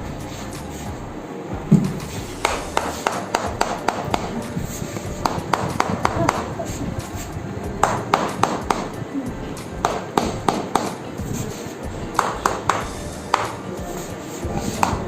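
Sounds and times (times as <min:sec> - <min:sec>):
percussive massage taps: 0:01.7 - 0:15.0.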